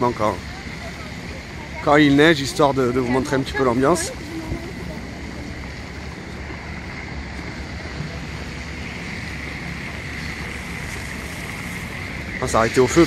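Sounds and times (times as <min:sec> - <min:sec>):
low traffic rumble: 0:00.0 - 0:13.0
tyres hissing through slush: 0:00.0 - 0:13.0.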